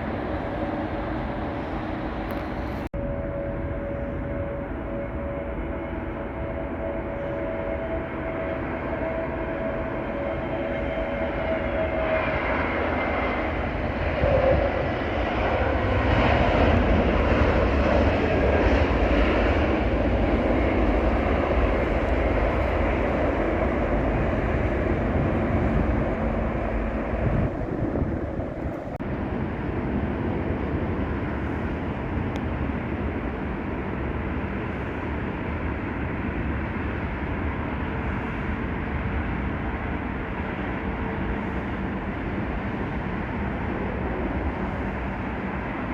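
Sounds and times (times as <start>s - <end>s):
jet airliner engines rumbling: 0.0s - 45.9s.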